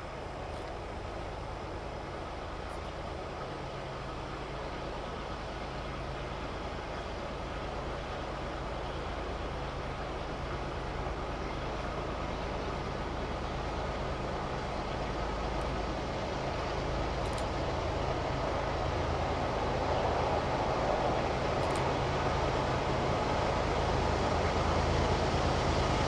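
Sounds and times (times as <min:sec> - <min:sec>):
distant diesel locomotive drone: 0:00.0 - 0:26.0.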